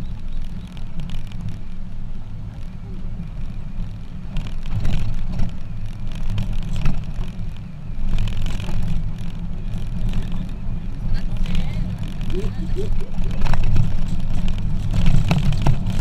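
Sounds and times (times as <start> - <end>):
truck driving rumble: 0.0 - 16.0.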